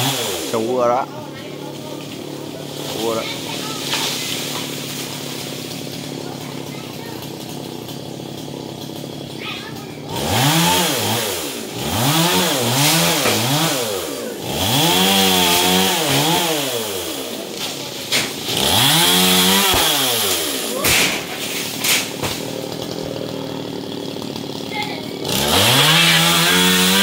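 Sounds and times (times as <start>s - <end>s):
chainsaw revving and idling: 0.0s - 27.0s.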